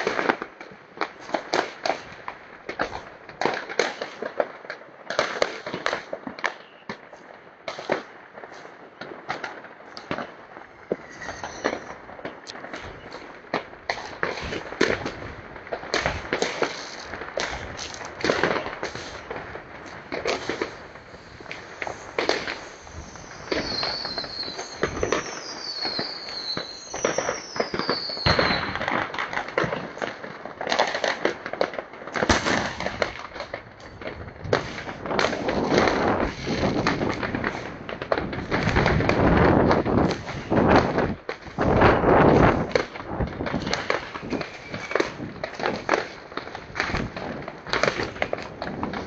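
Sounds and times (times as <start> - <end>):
fireworks bangs and pops: 0.0 - 49.0
falling firework whistles: 6.5 - 31.2, 32.2 - 49.0.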